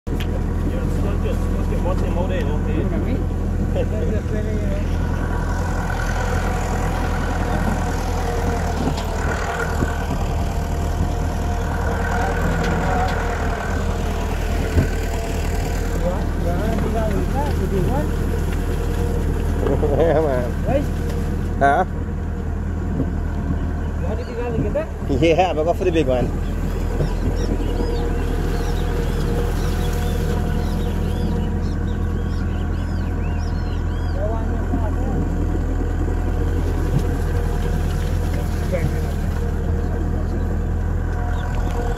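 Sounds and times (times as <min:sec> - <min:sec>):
tractor engine running: 0:00.0 - 0:41.9
birds chirping: 0:00.2 - 0:41.9.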